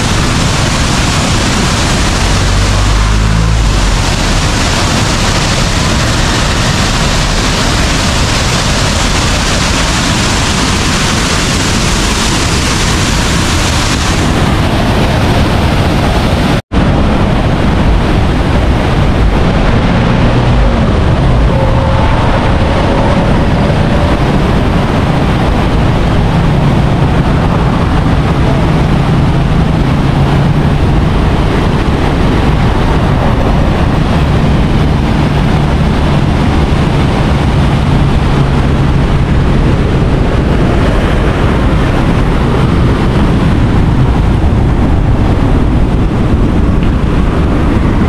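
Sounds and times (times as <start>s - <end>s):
passing vehicle engine hum: 0.0s - 48.0s
river rushing over rocks: 0.0s - 48.0s.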